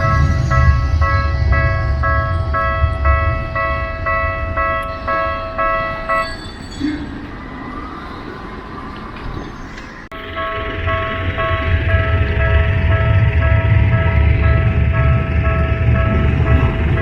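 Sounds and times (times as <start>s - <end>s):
level-crossing bell clanging: 0.0s - 17.0s
tram rumbling past: 0.0s - 17.0s.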